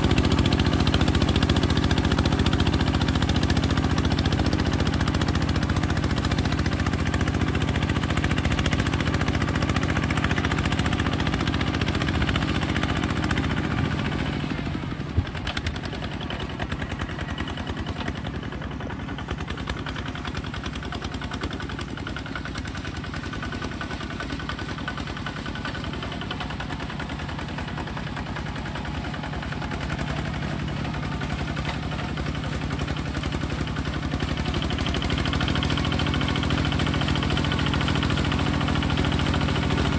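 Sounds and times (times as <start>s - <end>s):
bulldozer engine running: 0.0s - 39.9s.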